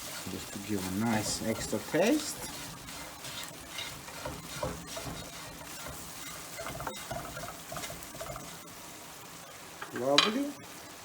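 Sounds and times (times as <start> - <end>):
bread frying in butter sizzling: 0.0 - 11.0.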